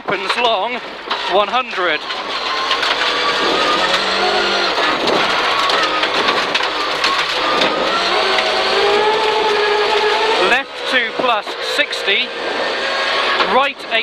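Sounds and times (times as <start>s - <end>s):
road noise rushing: 0.0s - 14.0s
car engine at high revs: 0.7s - 14.0s.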